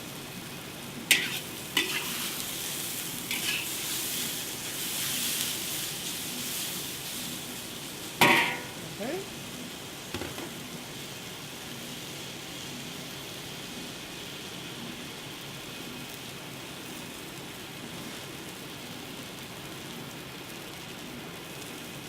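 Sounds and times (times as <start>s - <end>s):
noodles sizzling in a wok: 0.0s - 22.0s.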